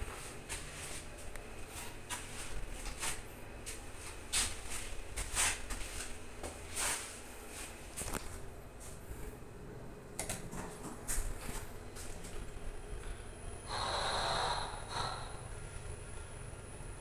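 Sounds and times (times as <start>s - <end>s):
elevator hum: 0.0s - 17.0s.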